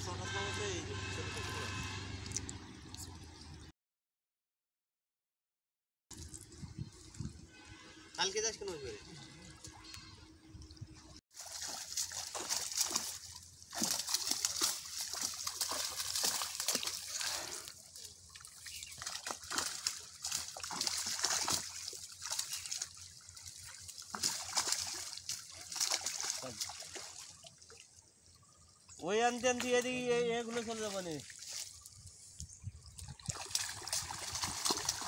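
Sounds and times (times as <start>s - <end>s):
pond water splashing: 6.1s - 35.0s.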